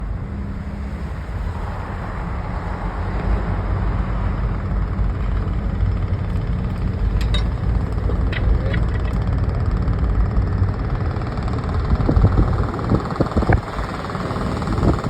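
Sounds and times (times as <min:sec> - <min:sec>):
heavy machinery engine rumble: 0:00.0 - 0:15.0.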